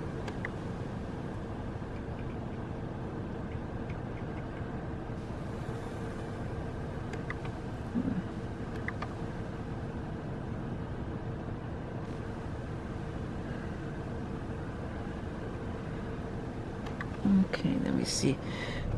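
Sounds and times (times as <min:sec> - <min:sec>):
car road and engine rumble: 0:00.0 - 0:18.9.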